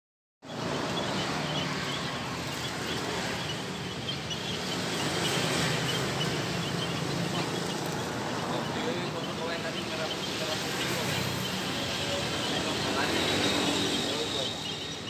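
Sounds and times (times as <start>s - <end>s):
noisy outdoor background: 0.4s - 15.0s
finches chirping: 0.5s - 15.0s.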